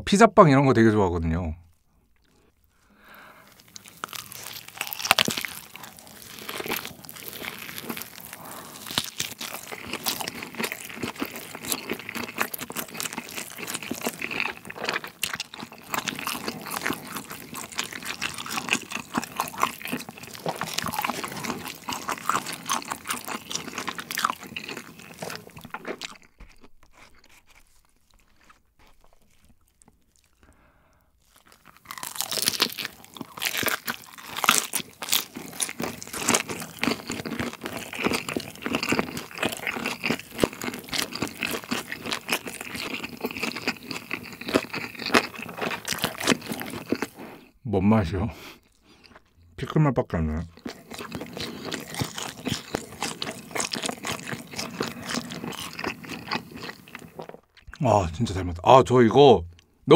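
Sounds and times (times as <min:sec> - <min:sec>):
biting and chewing pizza crust: 0:02.2 - 0:47.6, 0:48.4 - 0:49.4, 0:50.1 - 0:58.6.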